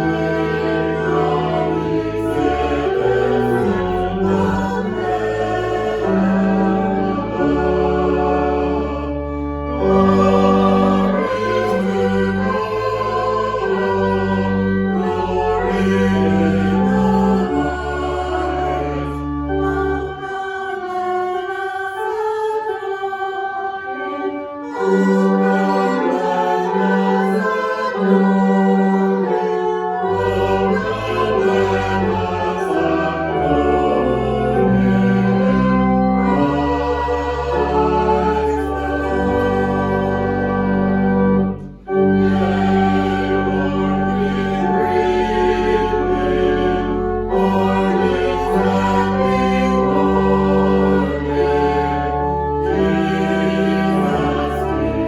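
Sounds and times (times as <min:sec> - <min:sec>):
slow sacred choral singing: 0:00.0 - 0:55.0.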